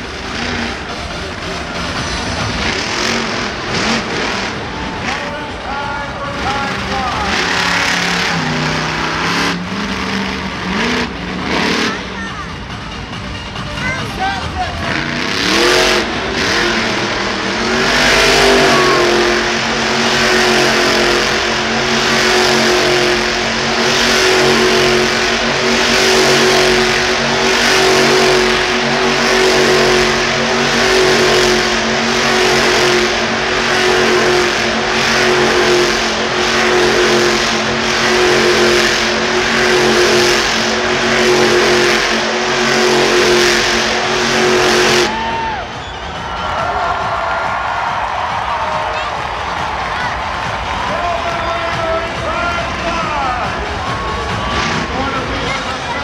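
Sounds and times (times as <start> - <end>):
truck engine at high revs: 0.0 - 56.0.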